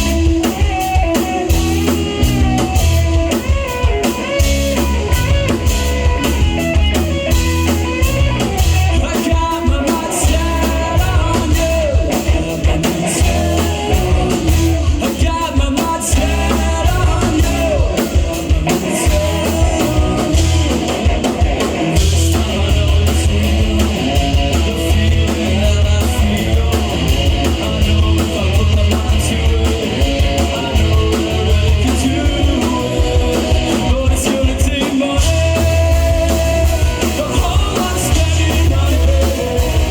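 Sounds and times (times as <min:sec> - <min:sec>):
bass guitar: 0:00.0 - 0:39.9
drum kit: 0:00.0 - 0:39.9
electric guitars: 0:00.0 - 0:39.9
person singing: 0:07.8 - 0:39.9.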